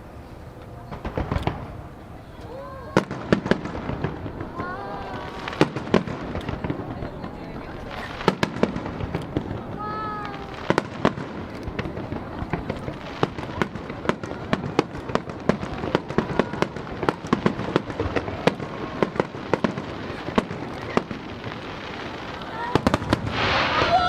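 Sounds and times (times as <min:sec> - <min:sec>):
fireworks bangs: 0:00.0 - 0:24.0
fireworks crackle: 0:00.0 - 0:24.0.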